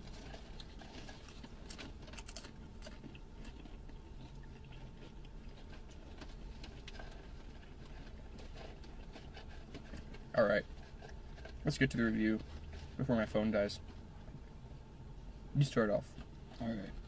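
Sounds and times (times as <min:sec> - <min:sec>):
crackles of food handled: 0:00.0 - 0:14.8
people chewing food: 0:00.0 - 0:14.8
low steady hum: 0:00.0 - 0:17.0.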